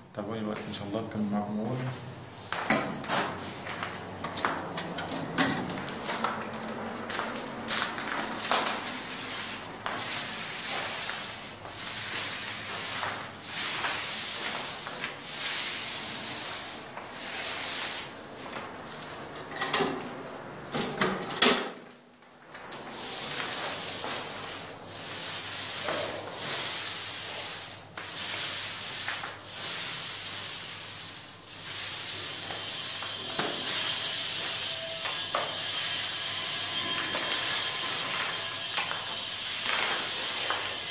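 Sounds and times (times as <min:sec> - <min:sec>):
paint roller swishing on wall: 0:00.5 - 0:19.4, 0:21.9 - 0:40.9.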